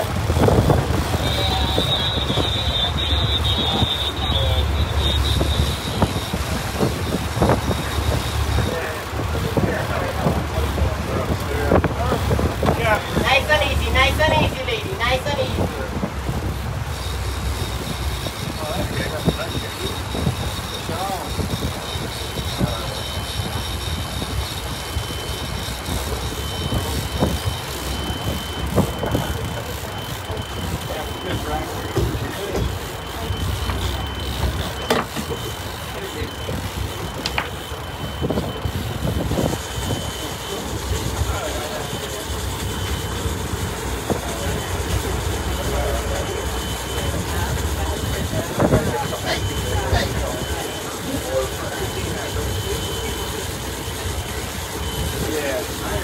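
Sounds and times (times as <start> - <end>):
boat engine droning: 0.0 - 56.0
high steady whine: 0.0 - 56.0
rushing wake water: 0.0 - 56.0
wind: 0.0 - 56.0.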